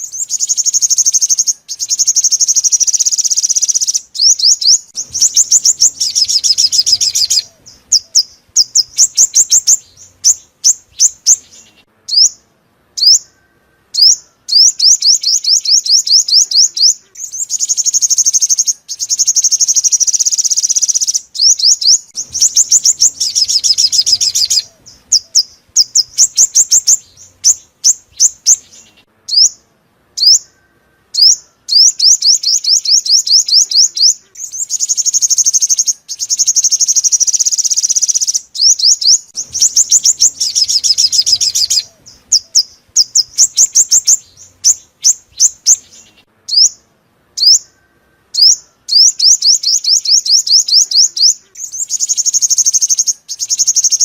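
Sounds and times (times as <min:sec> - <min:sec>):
bird trilling song: 0:00.0 - 0:54.0.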